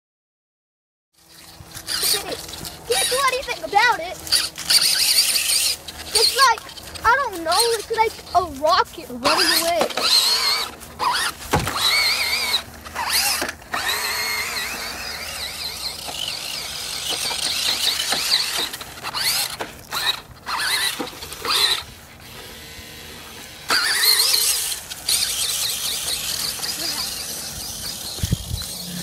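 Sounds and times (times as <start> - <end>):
toy car electric motor whining: 1.2 - 29.0.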